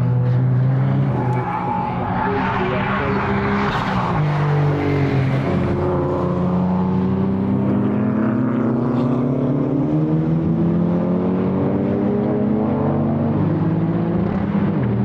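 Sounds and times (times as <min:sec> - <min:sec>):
race car engine accelerating: 0:00.3 - 0:15.0.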